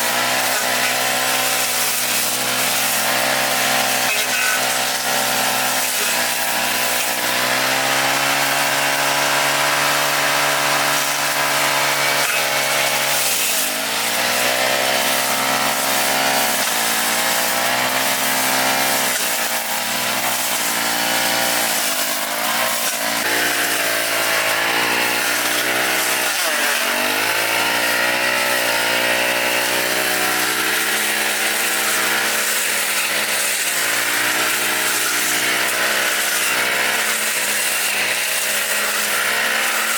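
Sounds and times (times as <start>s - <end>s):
grass cutter engine running: 0.0s - 39.9s.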